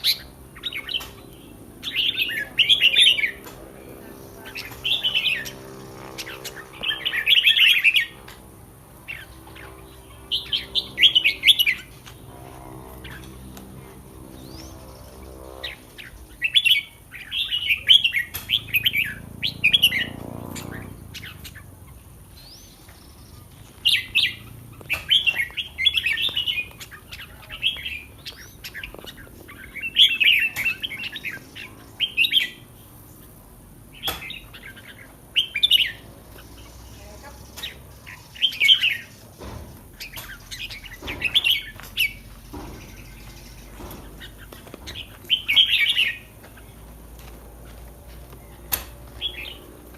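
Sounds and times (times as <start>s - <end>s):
bird warbling song: 0.0s - 49.9s.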